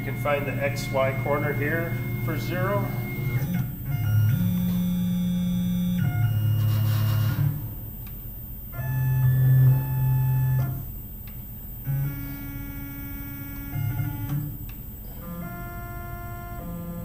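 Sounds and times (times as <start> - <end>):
stepper motors organ-like tones: 0.0 - 17.0.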